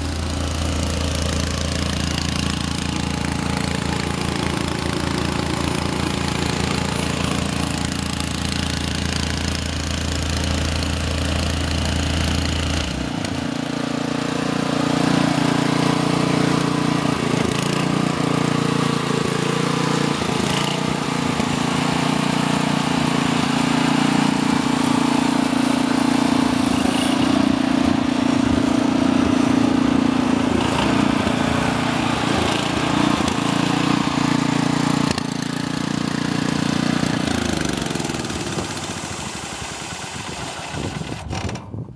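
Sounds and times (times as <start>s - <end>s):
asphalt roller engine running: 0.0s - 41.9s.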